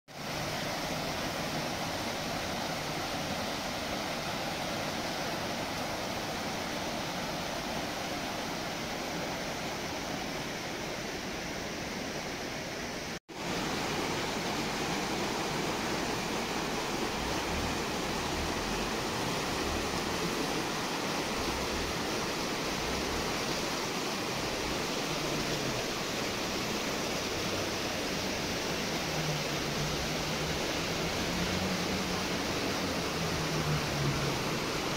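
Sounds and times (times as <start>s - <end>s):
river rushing over stones: 0.1s - 34.9s.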